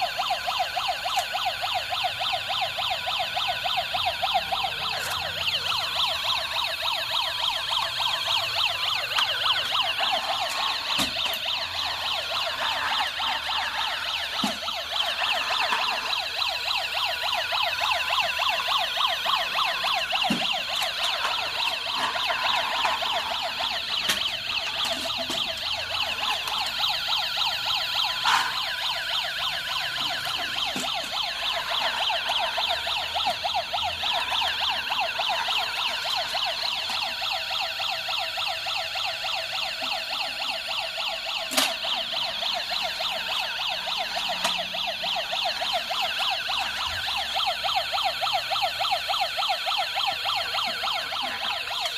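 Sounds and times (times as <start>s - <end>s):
toy siren warbling wail: 0.0s - 51.9s.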